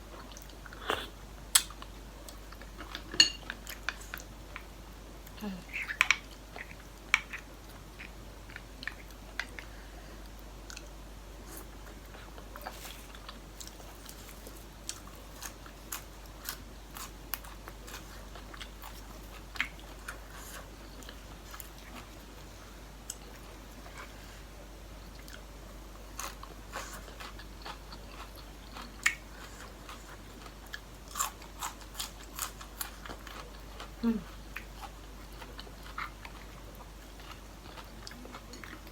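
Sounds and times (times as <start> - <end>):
person chewing food: 0.1 - 38.9.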